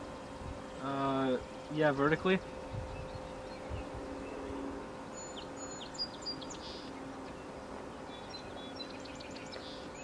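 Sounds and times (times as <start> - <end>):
faint steady hum: 0.0 - 10.0
small birds chirping and whistling: 0.0 - 10.0.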